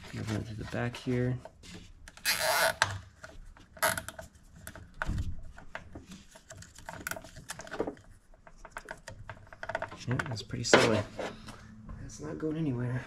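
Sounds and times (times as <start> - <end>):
plastic and wiring rustling: 0.0 - 11.6.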